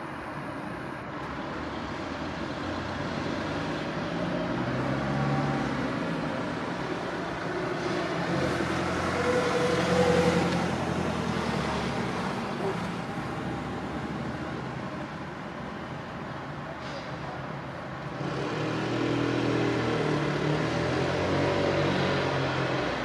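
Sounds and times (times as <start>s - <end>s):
steady traffic noise: 0.0s - 23.0s
vehicles passing by: 0.0s - 23.0s.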